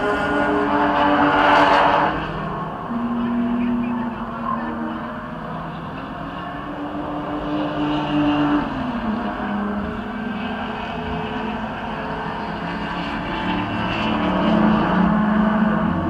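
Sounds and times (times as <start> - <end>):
race car engines passing: 0.0 - 16.0.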